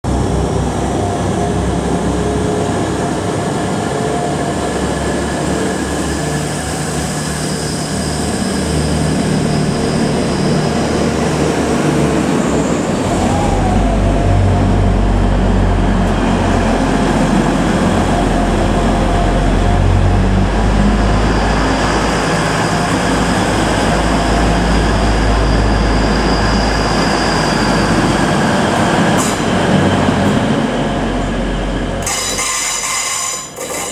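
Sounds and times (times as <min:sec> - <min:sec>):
diesel train engine drone: 0:00.0 - 0:33.9.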